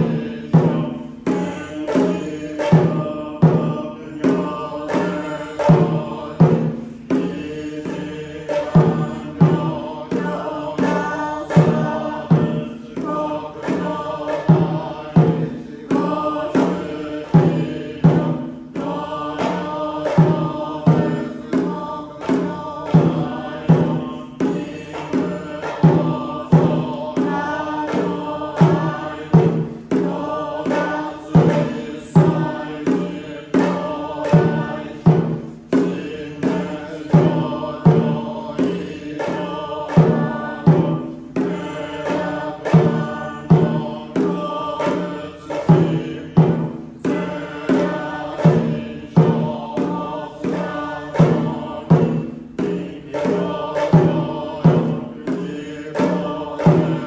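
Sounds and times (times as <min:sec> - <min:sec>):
congregation chanting in unison: 0:00.0 - 0:57.0.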